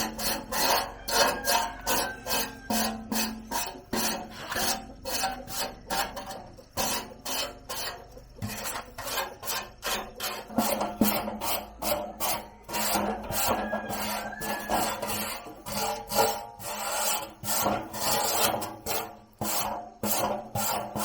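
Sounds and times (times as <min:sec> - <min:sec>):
hand file rasping: 0:00.0 - 0:21.0.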